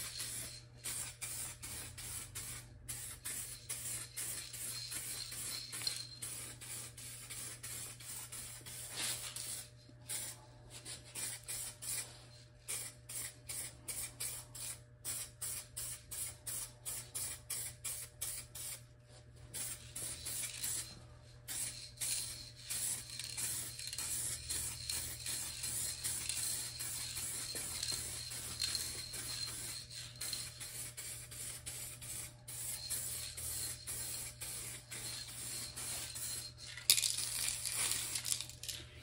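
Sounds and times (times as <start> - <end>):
spray can hissing: 0.0 - 10.3, 11.1 - 12.1, 12.7 - 18.8, 19.6 - 38.8.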